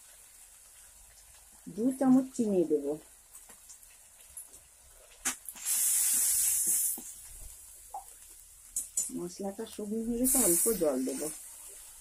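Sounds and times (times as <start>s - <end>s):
spice paste sizzling in oil: 0.0s - 12.0s.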